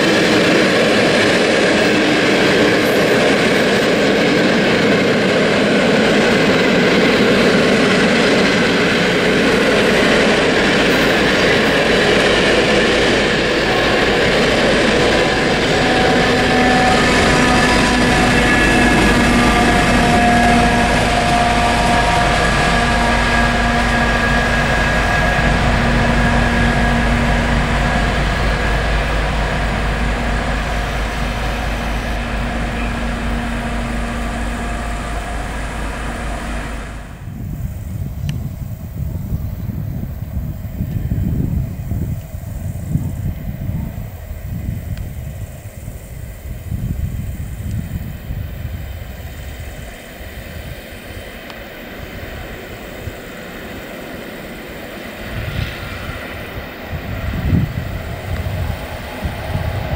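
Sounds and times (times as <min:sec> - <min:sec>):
diesel locomotive engine drone: 0:00.0 - 0:59.9
rumbling outdoor noise: 0:00.0 - 0:59.9
wind buffeting microphone: 0:00.0 - 0:59.9.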